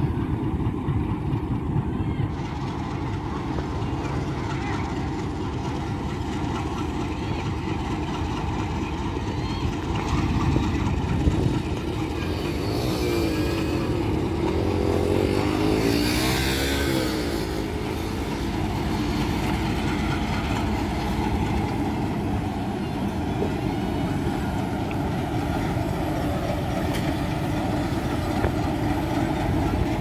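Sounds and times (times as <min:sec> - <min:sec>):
diesel locomotive engine: 0:00.0 - 0:30.0.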